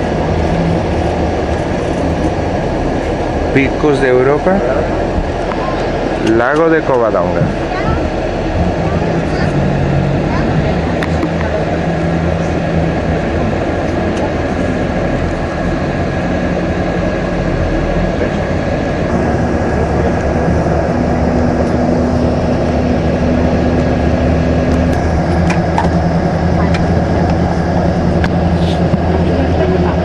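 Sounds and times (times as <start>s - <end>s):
vehicle engine and road drone: 0.0s - 30.0s.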